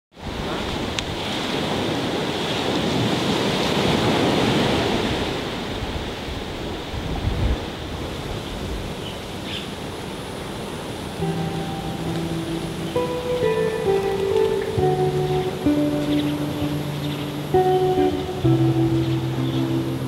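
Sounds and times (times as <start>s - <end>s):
strong wind: 0.2s - 20.0s
surf: 0.2s - 20.0s
wind buffeting microphone: 0.2s - 20.0s.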